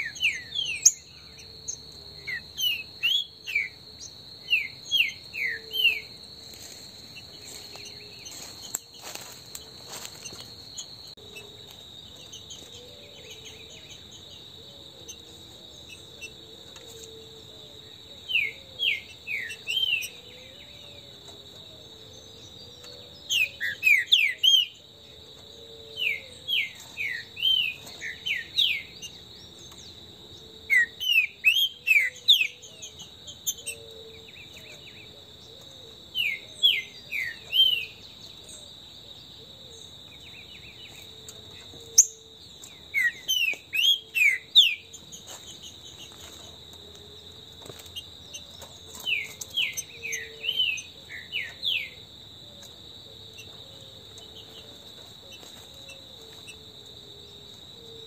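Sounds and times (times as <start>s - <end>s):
high insect trill: 0.0s - 58.0s.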